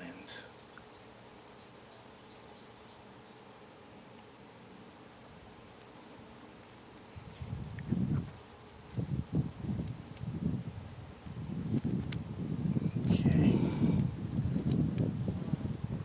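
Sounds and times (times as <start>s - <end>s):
high-pitched insect chorus trilling: 0.0s - 16.0s.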